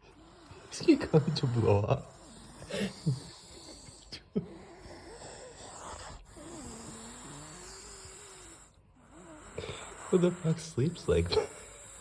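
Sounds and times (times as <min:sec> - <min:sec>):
dog snoring: 0:00.0 - 0:12.0.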